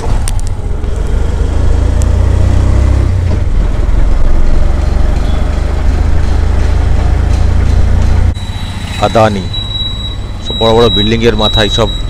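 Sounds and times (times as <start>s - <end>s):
auto-rickshaw engine rumble: 0.0s - 12.0s.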